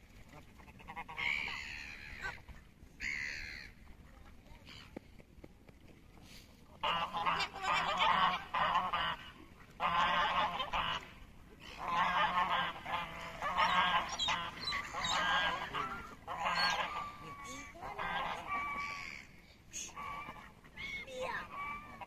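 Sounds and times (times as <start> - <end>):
water birds honking: 0.1 - 5.0, 6.2 - 22.0.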